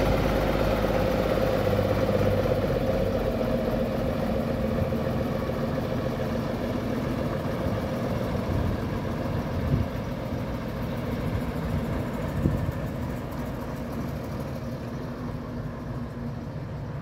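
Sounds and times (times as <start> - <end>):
diesel lorry engine running: 0.0 - 17.0.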